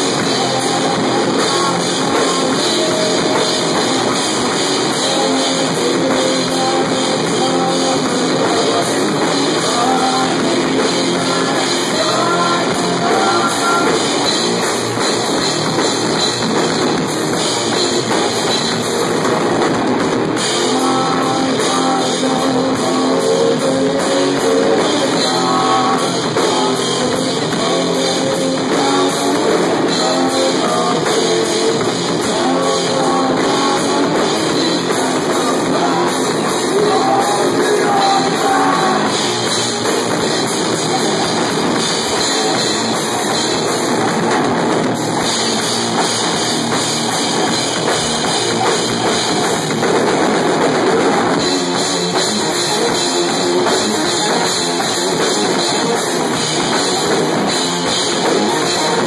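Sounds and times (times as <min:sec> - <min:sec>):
distorted electric guitar: 0:00.0 - 0:59.0
drum kit with crashing cymbals: 0:00.0 - 0:59.0.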